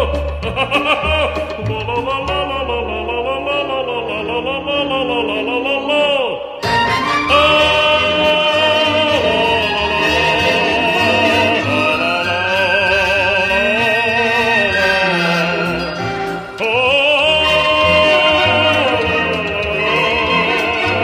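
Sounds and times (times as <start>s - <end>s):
musical accompaniment: 0.0s - 21.0s
operatic singing: 0.0s - 21.0s.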